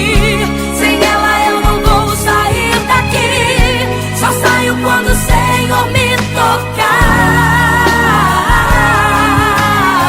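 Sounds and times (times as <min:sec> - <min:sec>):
gospel song with wavering melody: 0:00.0 - 0:10.0
steady bass and beat: 0:00.0 - 0:10.0.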